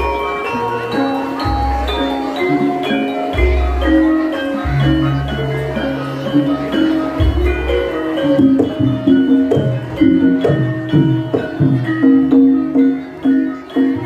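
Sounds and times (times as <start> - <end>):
gamelan music: 0.0 - 14.0.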